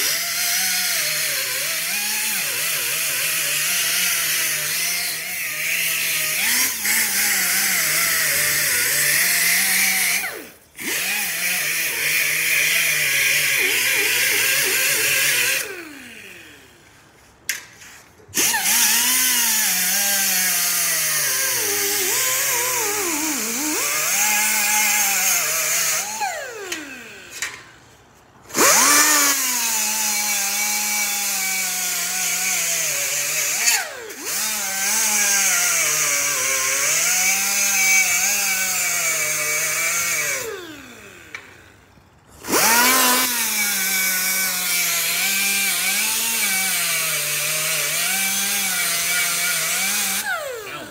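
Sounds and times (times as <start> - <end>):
rotary tool grinding metal: 0.0 - 50.9.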